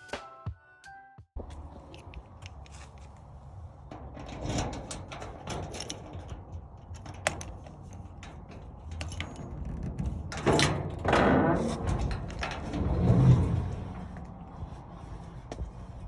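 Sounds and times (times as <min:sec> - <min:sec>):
objects clicking and knocking: 0:01.4 - 0:14.4
objects clattering: 0:01.4 - 0:15.1.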